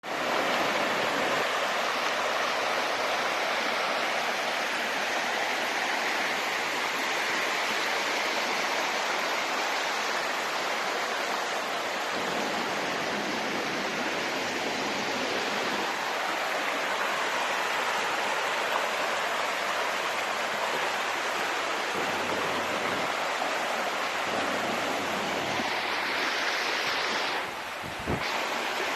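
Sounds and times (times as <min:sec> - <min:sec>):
water rushing: 0:00.0 - 0:28.9.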